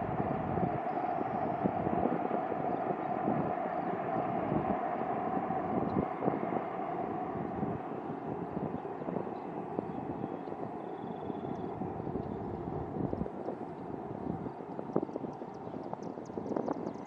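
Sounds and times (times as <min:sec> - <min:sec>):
distant train roar: 0:00.0 - 0:14.9.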